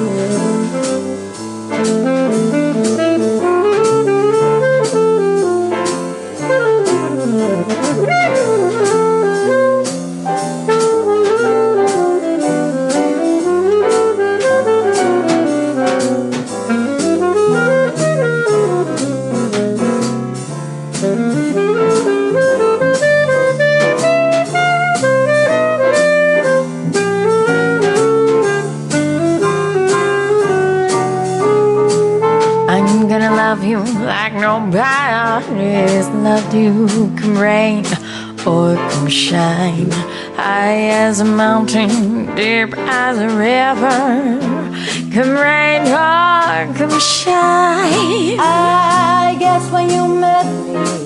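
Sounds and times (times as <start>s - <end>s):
drums with cymbal strokes: 0.0s - 51.0s
jazz lead instrument solo: 0.0s - 51.0s
walking bass: 0.0s - 51.0s.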